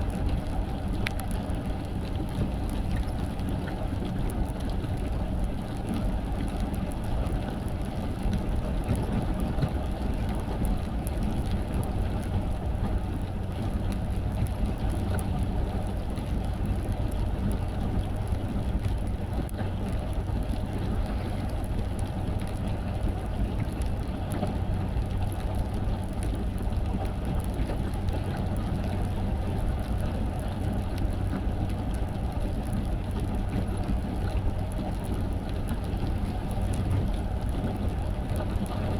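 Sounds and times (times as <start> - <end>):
faint ticks: 0.1 - 38.9.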